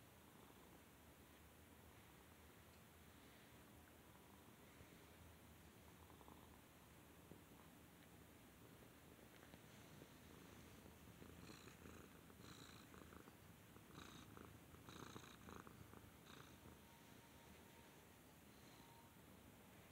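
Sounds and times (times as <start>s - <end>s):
cat purring: 0.0s - 19.1s.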